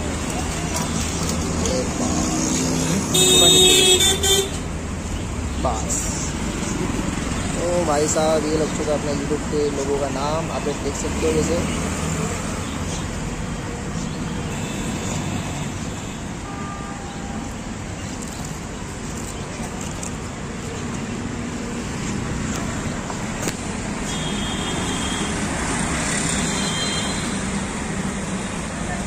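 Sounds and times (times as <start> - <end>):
highway traffic noise: 0.0 - 29.0.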